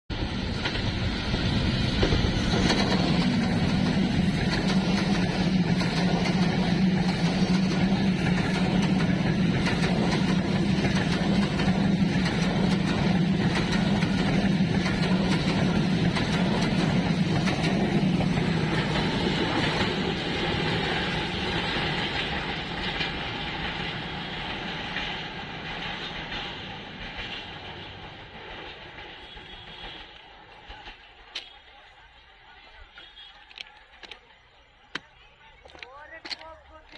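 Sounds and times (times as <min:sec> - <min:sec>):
train wheels clattering on rails: 0:00.1 - 0:31.9, 0:32.9 - 0:36.9.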